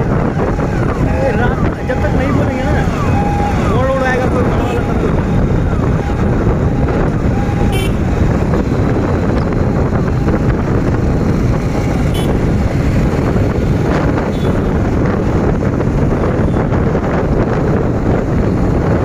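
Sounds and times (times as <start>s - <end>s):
motorcycle engine and road noise: 0.0s - 19.0s
wind buffeting microphone: 0.0s - 19.0s.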